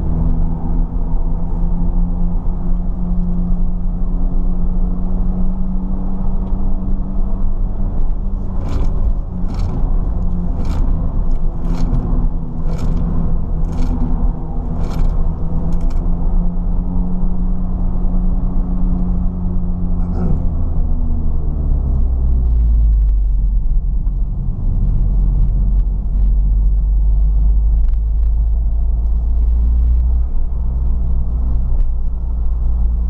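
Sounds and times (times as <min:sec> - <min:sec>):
car engine droning: 0:00.0 - 0:33.0.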